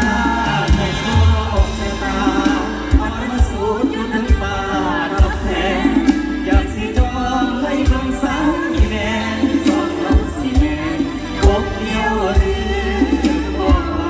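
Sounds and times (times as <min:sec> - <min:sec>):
live band over loudspeakers: 0:00.0 - 0:14.0
person singing: 0:00.0 - 0:14.0.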